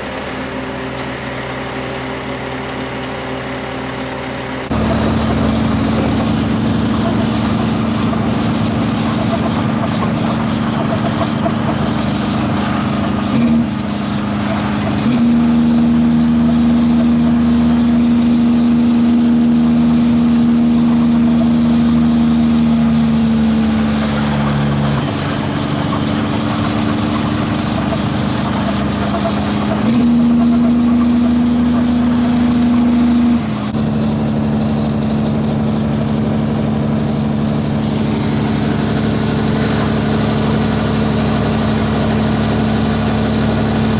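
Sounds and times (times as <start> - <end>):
heavy truck engine droning: 0.0 - 43.9.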